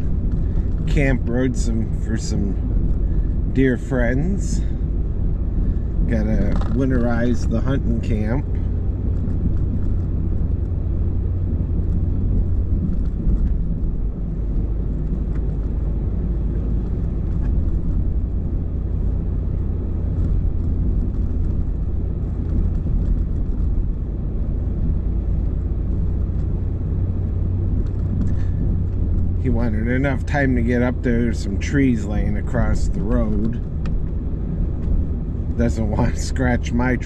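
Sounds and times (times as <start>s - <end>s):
engine and tyre rumble: 0.0s - 37.0s.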